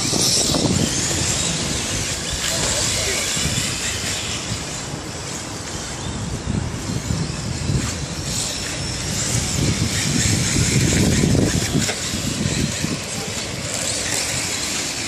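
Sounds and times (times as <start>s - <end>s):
rc cars motors and tyres hissing: 0.0s - 15.0s.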